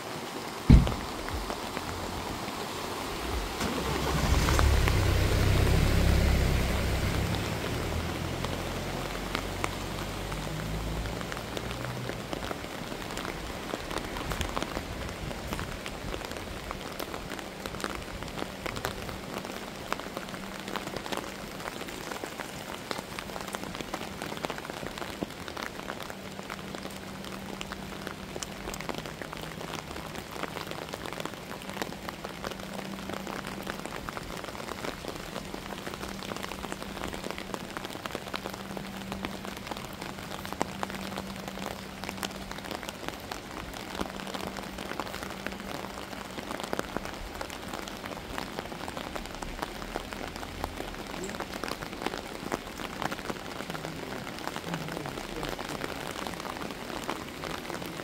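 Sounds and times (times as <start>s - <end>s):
steady rain pattering: 0.0s - 58.0s.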